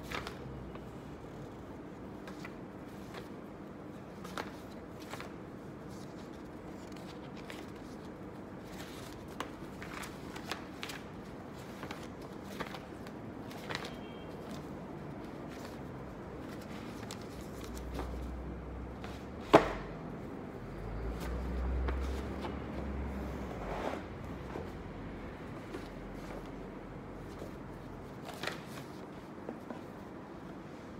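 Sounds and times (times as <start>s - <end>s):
paper envelopes rustling: 0.0s - 30.3s.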